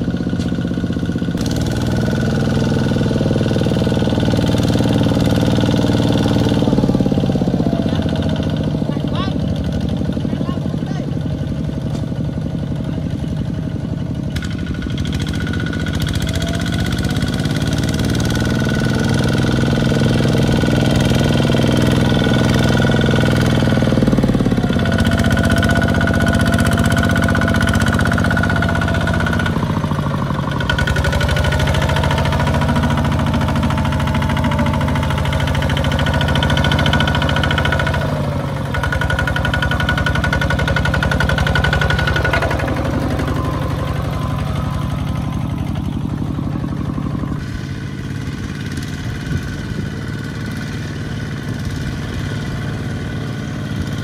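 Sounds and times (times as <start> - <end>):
diesel tractor engine knocking: 0.0 - 54.0.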